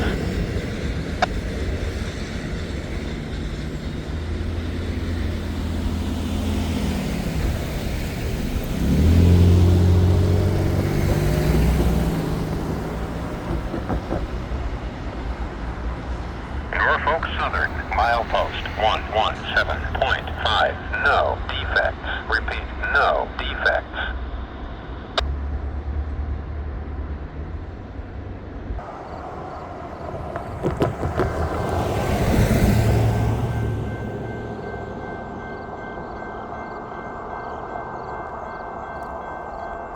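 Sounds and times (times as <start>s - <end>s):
heavy engine humming: 0.0s - 39.9s
road vehicle passing: 0.0s - 39.9s.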